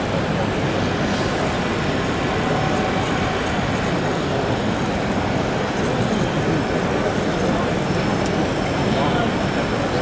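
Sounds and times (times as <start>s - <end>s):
model train running on track: 0.0s - 10.0s.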